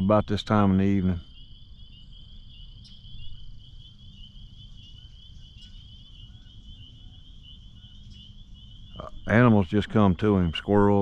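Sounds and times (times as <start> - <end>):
crickets or frogs trilling: 0.0 - 11.0.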